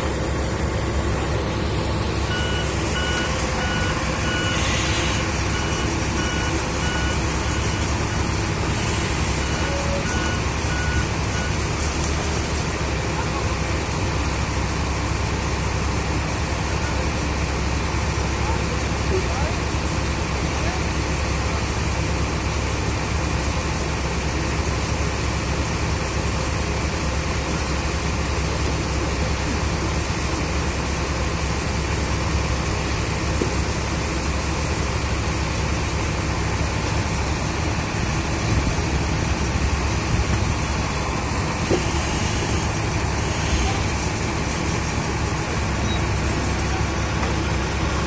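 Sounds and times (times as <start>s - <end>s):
heavy engine running: 0.0s - 48.0s.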